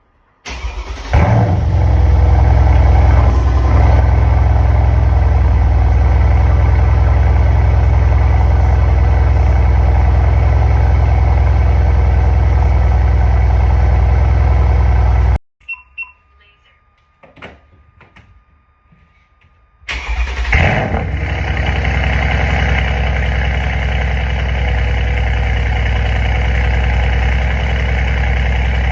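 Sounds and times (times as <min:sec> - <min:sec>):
car engine starting and idling: 0:00.4 - 0:15.4, 0:19.9 - 0:28.9.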